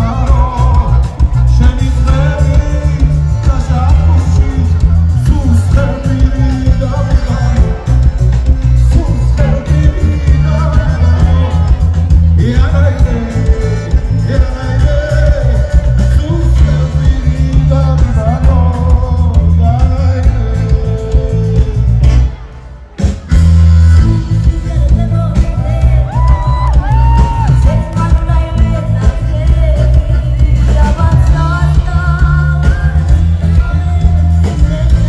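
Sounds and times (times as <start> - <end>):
person singing: 0.0 - 22.4, 23.9 - 35.0
heavy pulsing bass: 0.0 - 22.5, 23.2 - 35.0
live band playing: 0.0 - 35.0.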